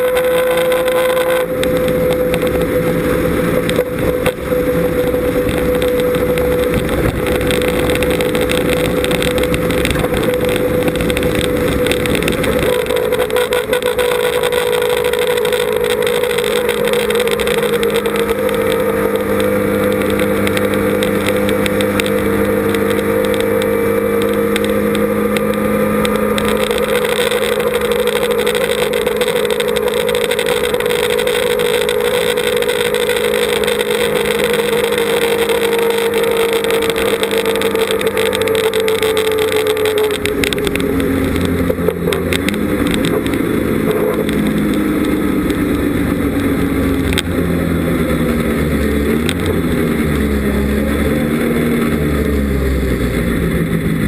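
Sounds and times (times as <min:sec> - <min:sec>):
sports car engine cruising: 0:00.0 - 0:54.0
wind noise: 0:00.0 - 0:54.0.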